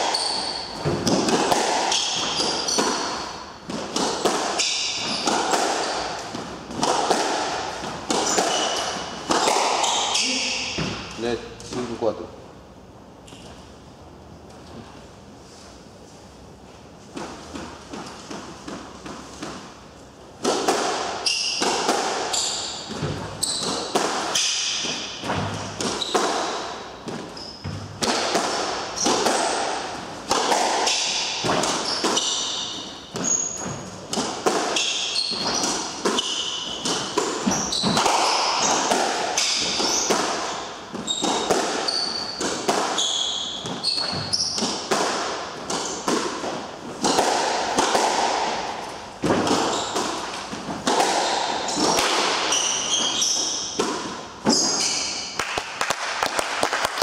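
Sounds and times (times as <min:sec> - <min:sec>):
squash ball cracking off rackets: 0:00.0 - 0:11.1, 0:20.4 - 0:57.0
sneakers squeaking on wooden floor: 0:00.0 - 0:11.8, 0:20.9 - 0:55.4.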